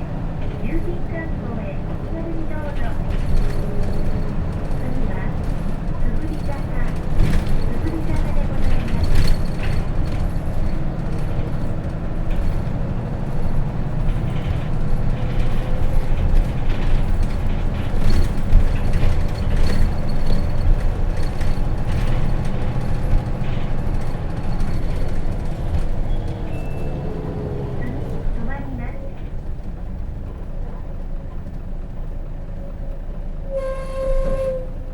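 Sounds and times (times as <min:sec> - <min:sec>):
rattles and clicks: 0:00.0 - 0:30.6
bus diesel engine rumble: 0:00.0 - 0:34.9.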